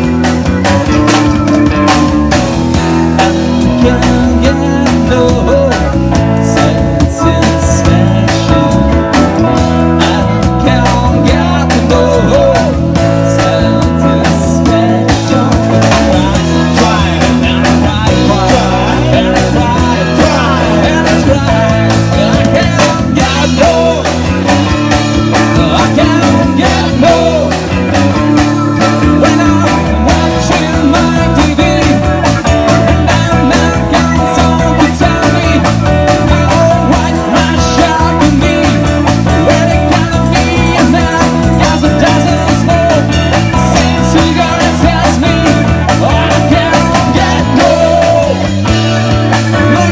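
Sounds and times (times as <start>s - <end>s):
person singing: 0.0s - 49.9s
rock band playing: 0.0s - 49.9s.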